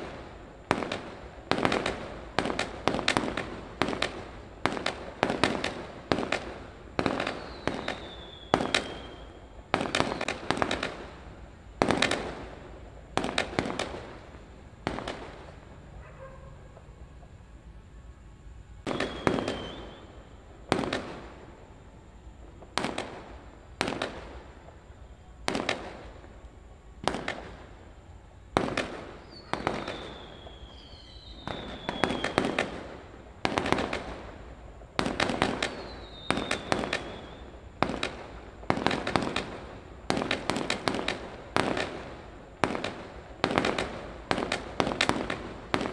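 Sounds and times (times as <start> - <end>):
fireworks bangs: 0.0 - 17.5, 18.8 - 45.9
falling firework whistles: 0.0 - 45.9.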